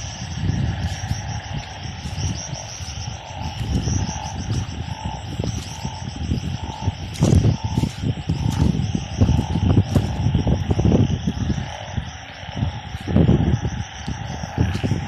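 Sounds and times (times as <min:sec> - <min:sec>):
frogs calling: 0:00.0 - 0:15.0
insects trilling: 0:00.0 - 0:15.0.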